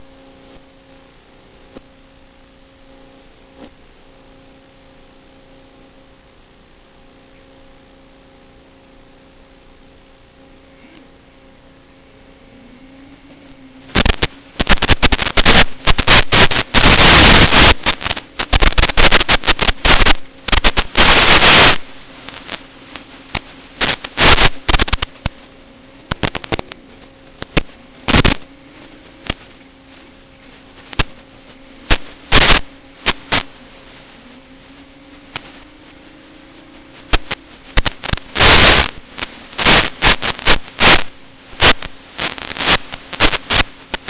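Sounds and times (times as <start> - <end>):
distorted crackling and popping: 0.0 - 44.0
faint electrical hum: 0.0 - 44.0.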